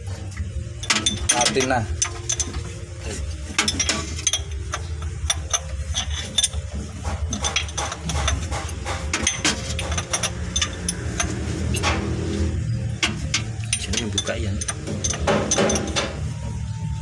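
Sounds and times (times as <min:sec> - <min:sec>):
steady low hum: 0:00.0 - 0:17.0
metal tools clinking: 0:00.3 - 0:16.7.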